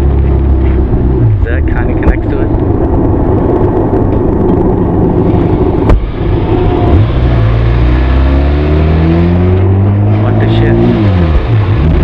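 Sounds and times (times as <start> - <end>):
motorcycle exhaust accelerating: 0.0 - 12.0.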